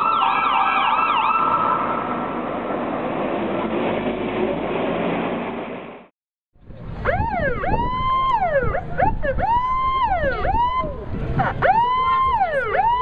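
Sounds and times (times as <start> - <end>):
sweeping siren: 0.0 - 4.1, 6.7 - 13.0
truck engine rumble: 1.2 - 13.0.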